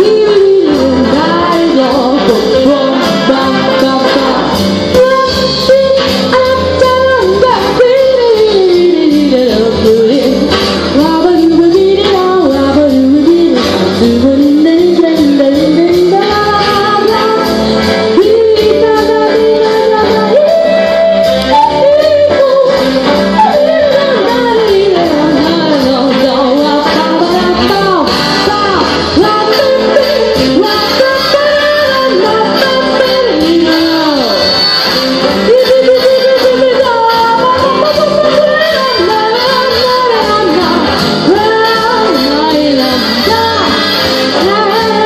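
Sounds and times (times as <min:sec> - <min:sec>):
girl singing into microphone: 0:00.0 - 0:34.4, 0:35.4 - 0:45.0
backing music with steady beat: 0:00.0 - 0:45.0.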